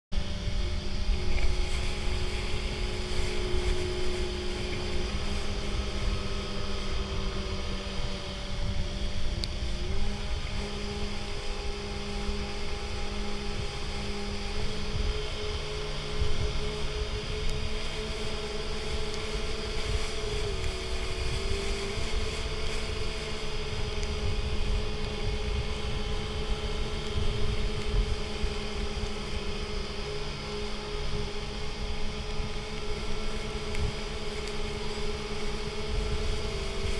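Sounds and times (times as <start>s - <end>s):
boat engine rumbling: 0.1s - 36.9s
water noise: 0.1s - 36.9s
wind: 0.1s - 36.9s.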